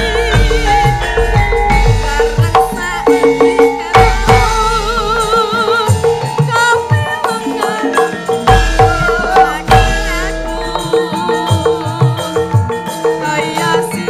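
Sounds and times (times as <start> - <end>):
drum strokes: 0.0 - 14.0
person singing with vibrato: 0.0 - 14.0.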